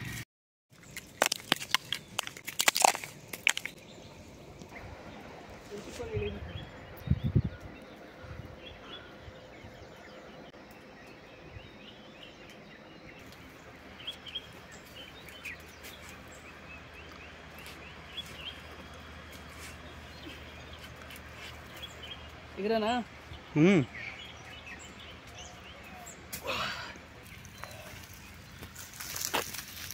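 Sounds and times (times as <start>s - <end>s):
small birds chirping: 0.7s - 29.9s.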